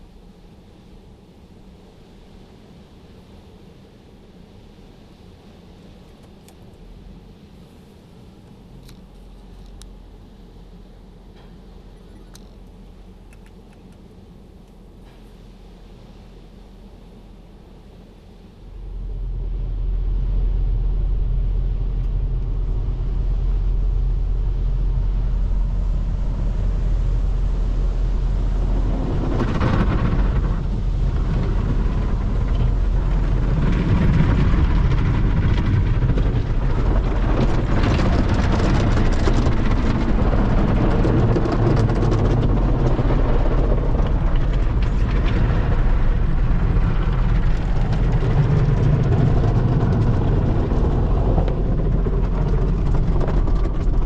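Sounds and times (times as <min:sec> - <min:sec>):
car wash machinery rumble: 0:00.0 - 0:54.0.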